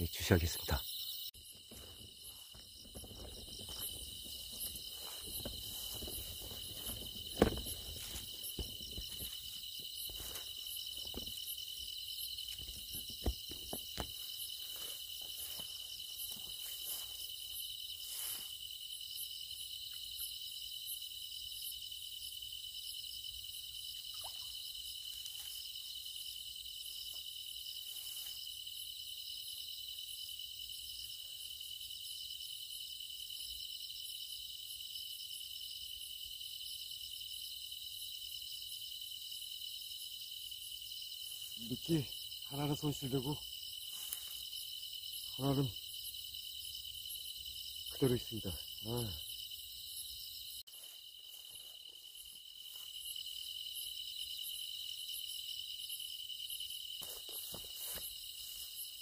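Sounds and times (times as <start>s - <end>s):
night insects chirring: 0.0s - 59.0s.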